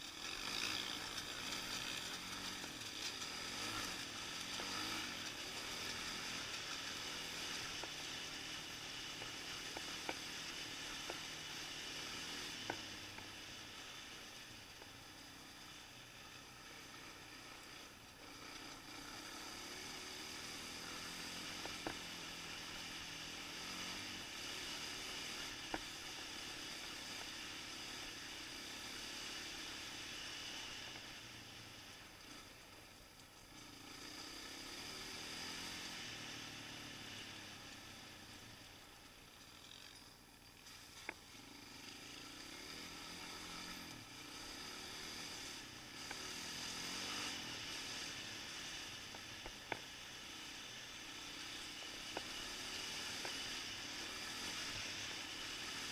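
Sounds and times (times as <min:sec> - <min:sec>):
quad engine revving: 0:00.0 - 0:14.4, 0:16.5 - 0:32.6, 0:33.5 - 0:38.6, 0:40.7 - 0:55.9
steady hiss: 0:00.0 - 0:55.9.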